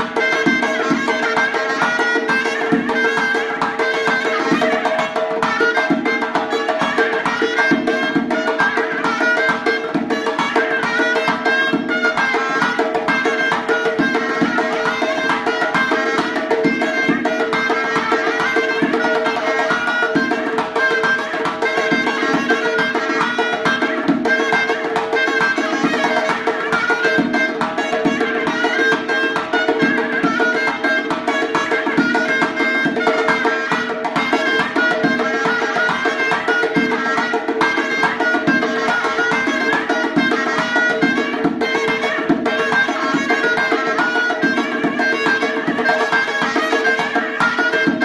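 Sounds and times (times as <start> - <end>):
double-reed shawm playing folk melody: 0.0 - 48.0
hand drum beat: 0.0 - 48.0.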